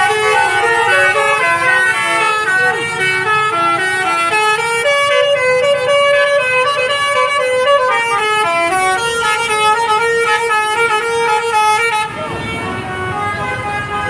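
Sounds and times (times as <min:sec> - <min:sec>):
multi-tone bus horn playing tune: 0:00.0 - 0:14.0.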